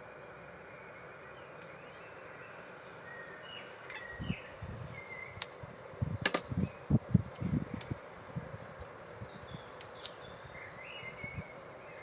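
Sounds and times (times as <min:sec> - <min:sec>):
birds chirping: 0:00.1 - 0:07.1, 0:08.0 - 0:12.0.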